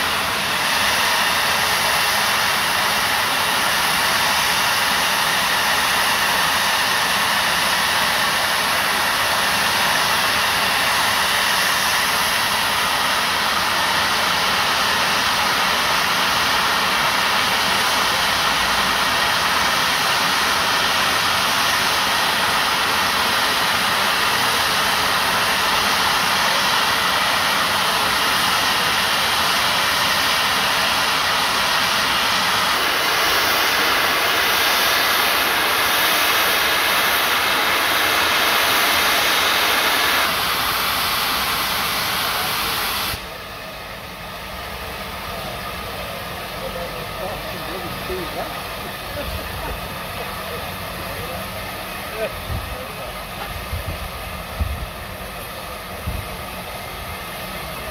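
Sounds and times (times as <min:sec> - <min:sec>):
steam locomotive hissing: 0:00.0 - 0:57.9.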